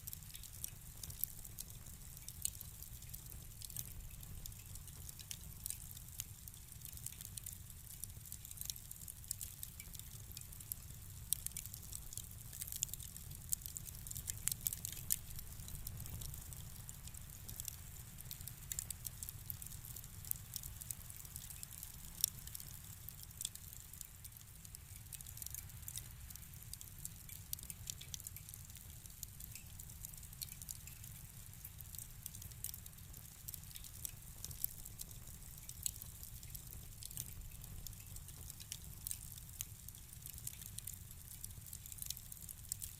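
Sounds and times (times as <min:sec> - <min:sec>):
fire popping and snapping: 0:00.0 - 0:42.9
low rumble of flames: 0:00.0 - 0:42.9.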